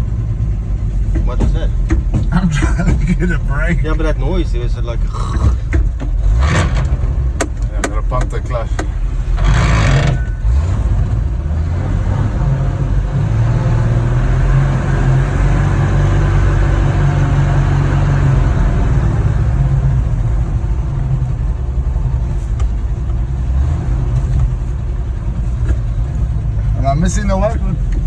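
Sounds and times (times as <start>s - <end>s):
pickup truck engine running: 0.0s - 28.0s.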